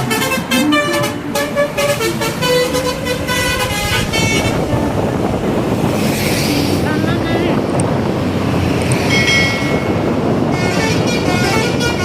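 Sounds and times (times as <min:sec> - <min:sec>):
steady noise: 0:00.0 - 0:11.1.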